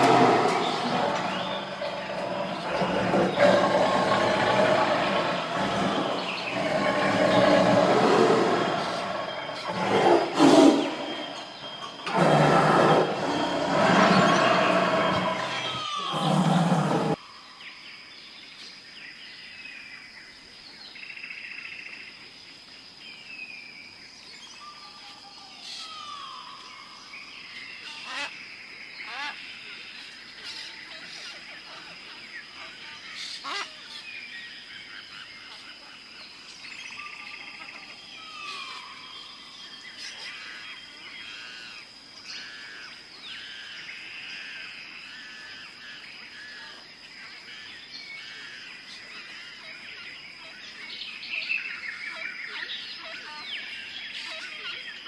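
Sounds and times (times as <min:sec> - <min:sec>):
many birds chirping: 0:00.0 - 0:22.0, 0:23.1 - 0:55.0.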